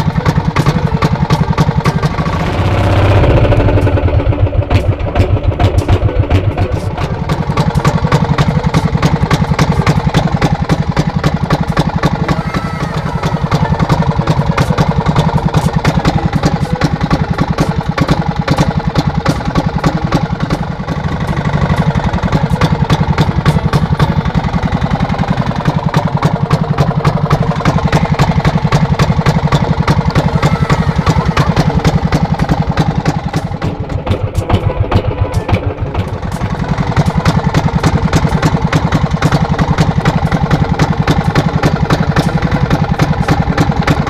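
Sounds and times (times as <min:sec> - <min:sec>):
boat engine chugging: 0:00.0 - 0:44.0.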